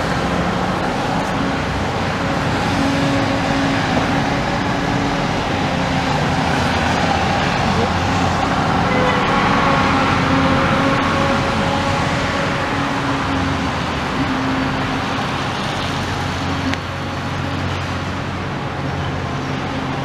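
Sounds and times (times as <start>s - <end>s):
traffic and engine hum: 0.0s - 20.0s.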